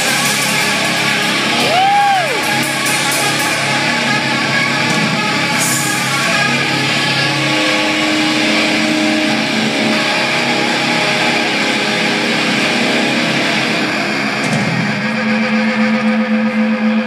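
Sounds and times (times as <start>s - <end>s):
distorted electric guitars: 0.0s - 17.0s
rock band playing loudly: 0.0s - 17.0s.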